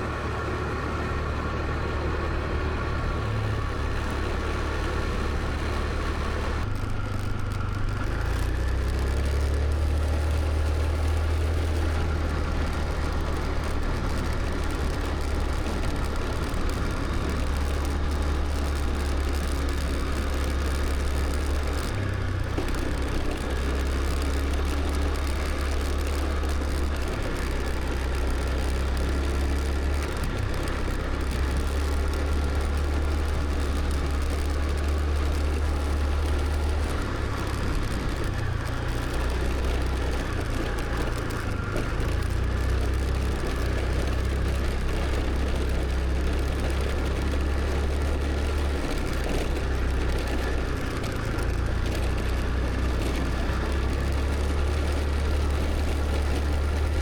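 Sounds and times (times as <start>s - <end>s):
road noise: 0.0s - 57.0s
scooter engine drone: 0.0s - 57.0s.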